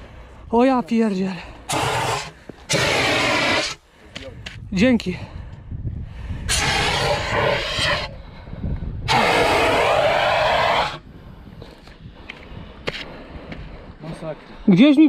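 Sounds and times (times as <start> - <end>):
wind rumbling on microphone: 1.6 - 14.7.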